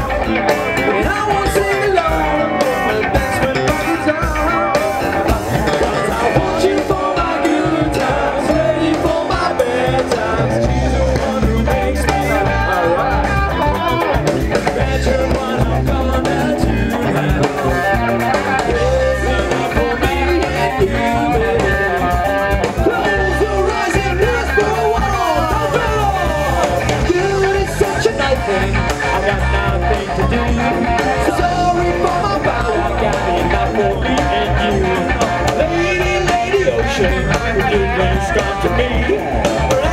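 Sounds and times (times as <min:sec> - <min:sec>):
drums: 0:00.0 - 0:39.9
electric guitar: 0:00.0 - 0:39.9
person singing into a microphone: 0:00.8 - 0:39.9.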